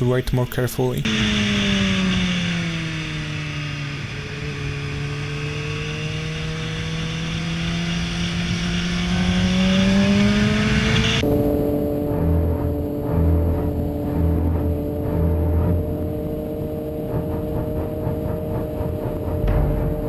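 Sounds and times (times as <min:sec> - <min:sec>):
motorcycle engine: 0:01.1 - 0:20.0.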